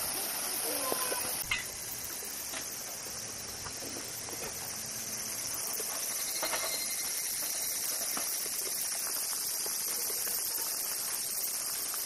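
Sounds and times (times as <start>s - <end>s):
cicadas chorus: 0.0s - 12.0s.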